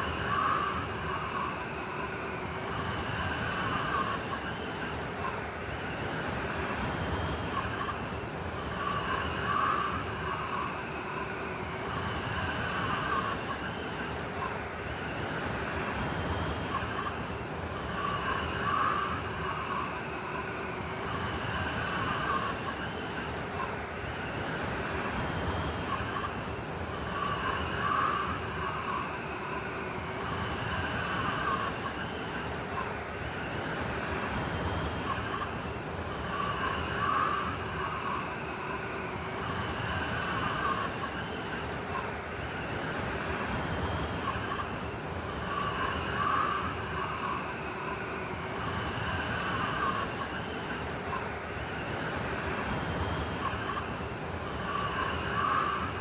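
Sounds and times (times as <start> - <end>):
howling blizzard wind: 0.0 - 56.0.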